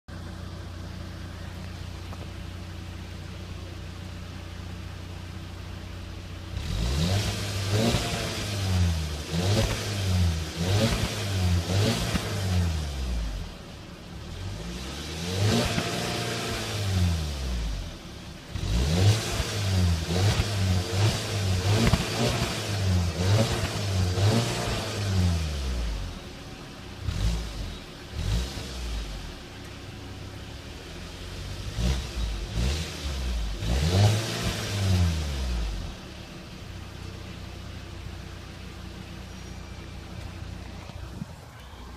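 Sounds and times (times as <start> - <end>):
car engine revving: 0.1 - 41.9.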